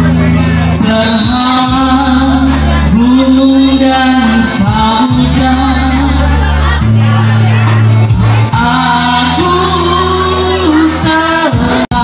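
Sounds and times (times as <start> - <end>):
amplified live accompaniment: 0.0 - 12.0
held bass notes: 0.0 - 12.0
man singing into microphone: 0.0 - 12.0.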